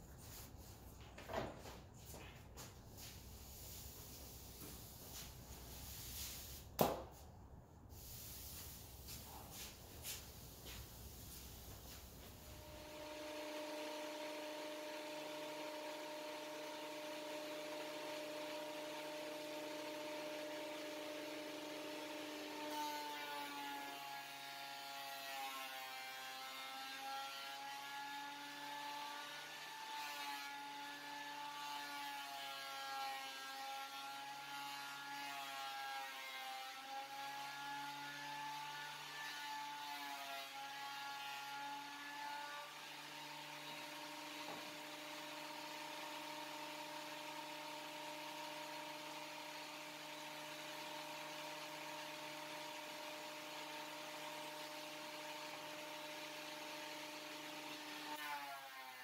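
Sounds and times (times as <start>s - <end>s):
thickness planer whining: 9.0s - 59.0s.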